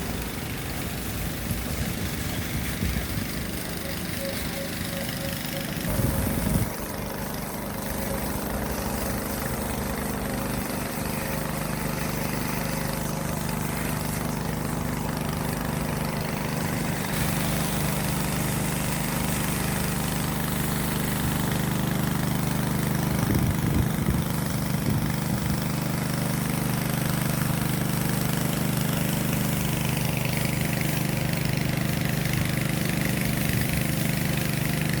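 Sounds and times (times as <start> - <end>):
motor droning: 0.0 - 35.0.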